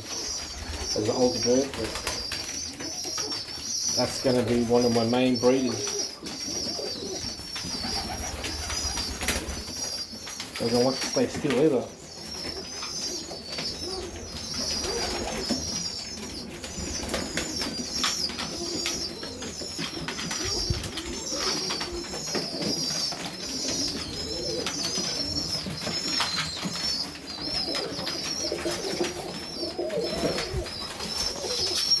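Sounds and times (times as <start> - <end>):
clicks and knocks of birds moving: 0.0 - 32.0
pigeons cooing: 0.0 - 32.0.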